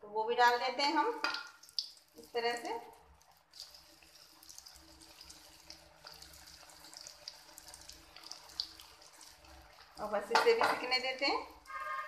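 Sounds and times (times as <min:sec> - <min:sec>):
food frying in oil: 0:00.5 - 0:12.0.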